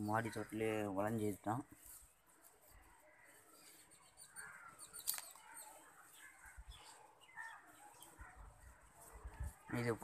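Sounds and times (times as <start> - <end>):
faint bird calls: 1.5 - 10.0.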